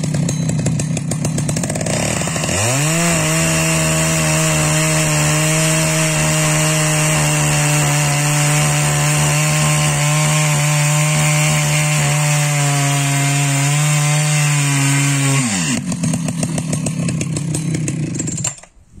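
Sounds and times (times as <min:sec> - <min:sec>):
chainsaw cutting a log: 0:00.0 - 0:18.7
chainsaw idling: 0:00.0 - 0:18.7.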